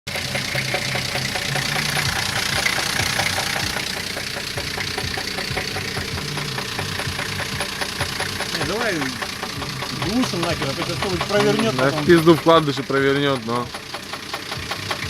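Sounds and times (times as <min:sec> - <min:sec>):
engine idling with rapid knock: 0:00.0 - 0:15.0.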